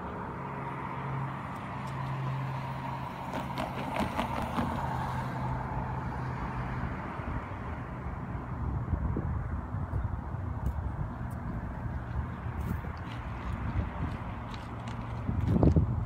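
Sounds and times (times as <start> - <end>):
car engine hum: 0.0 - 16.0
traffic hum: 0.0 - 16.0.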